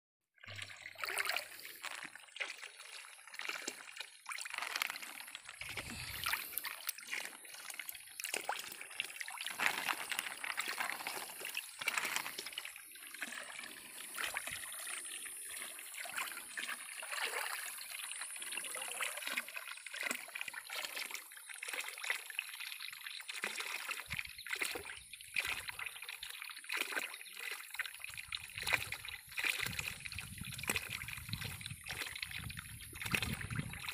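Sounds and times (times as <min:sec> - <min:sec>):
small water splashes: 0:00.4 - 0:33.9
water trickling and sloshing: 0:00.4 - 0:33.9.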